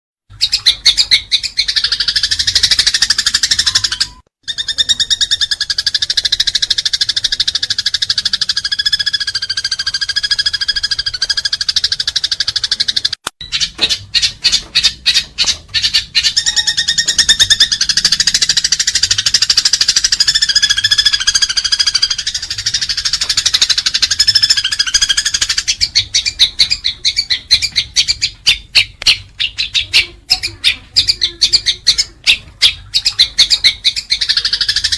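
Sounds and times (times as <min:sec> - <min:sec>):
sparrows chirping rapidly: 0:00.3 - 0:34.9.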